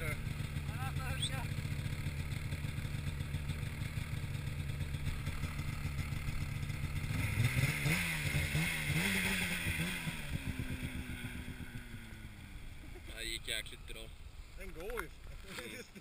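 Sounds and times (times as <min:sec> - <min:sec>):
snowmobile engine idling and revving: 0:00.0 - 0:16.0.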